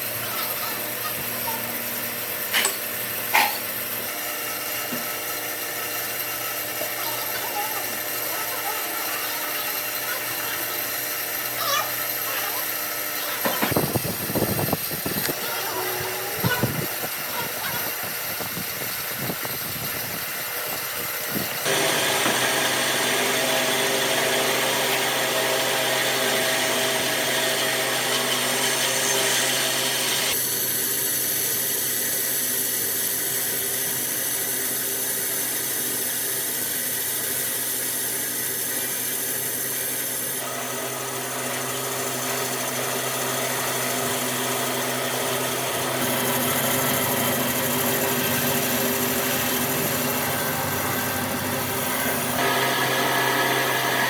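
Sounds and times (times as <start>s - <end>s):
power tool running: 0.0s - 54.0s.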